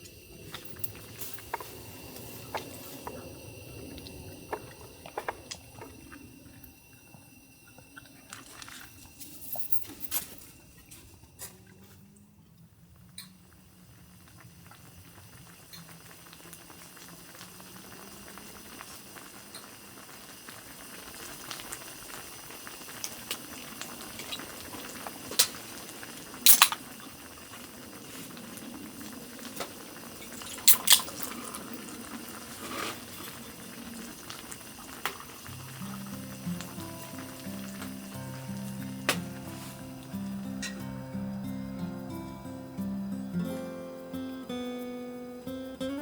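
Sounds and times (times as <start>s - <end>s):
water bubbling hiss: 0.0s - 46.0s.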